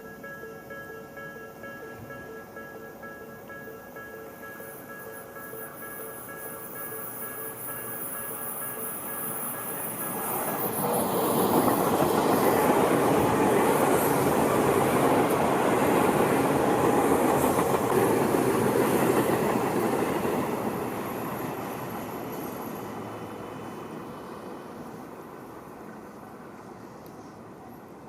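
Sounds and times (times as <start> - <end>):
train wheels rumbling on rail: 1.5 - 28.0.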